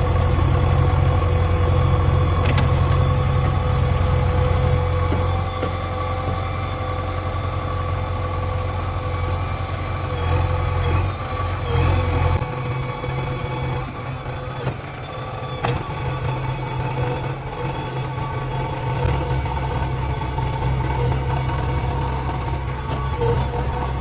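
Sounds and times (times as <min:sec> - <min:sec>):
diesel machinery engine droning: 0:00.0 - 0:24.0.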